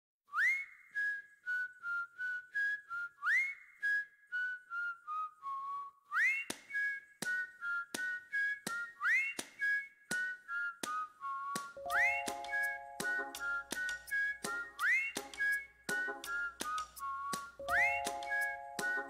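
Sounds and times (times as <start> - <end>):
whistled melody: 0.3 - 19.0.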